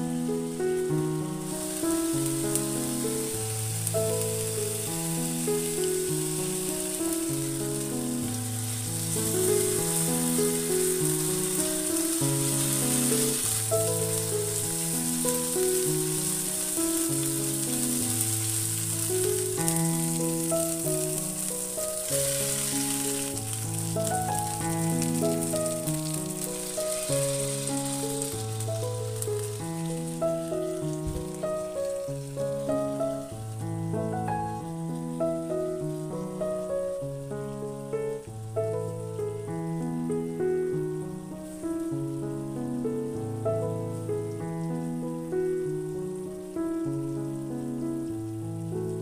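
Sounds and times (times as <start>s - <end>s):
food sizzling in oil: 0.1s - 49.0s.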